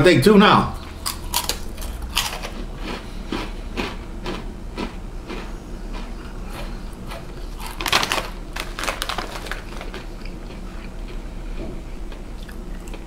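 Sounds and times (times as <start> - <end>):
person crunching chips: 0.8 - 11.3.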